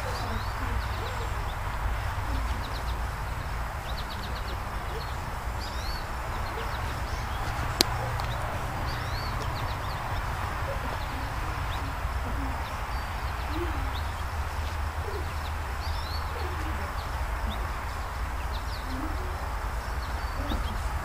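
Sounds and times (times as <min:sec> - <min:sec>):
small birds chirping: 0:00.0 - 0:21.0
soft low hooting calls: 0:00.0 - 0:21.0
steady hiss and low rumble: 0:00.0 - 0:21.0.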